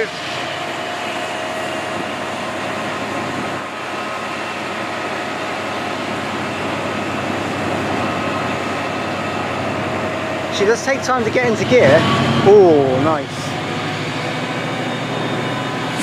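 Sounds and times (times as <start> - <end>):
diesel locomotive engine: 0.0 - 16.0.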